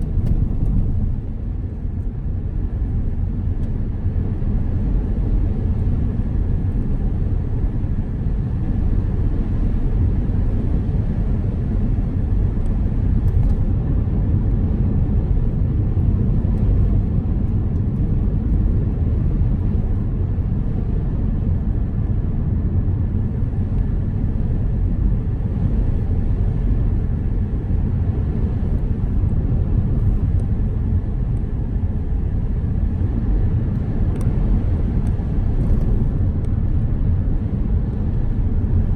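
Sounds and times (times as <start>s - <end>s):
tyres and engine rumble: 0.0s - 38.9s.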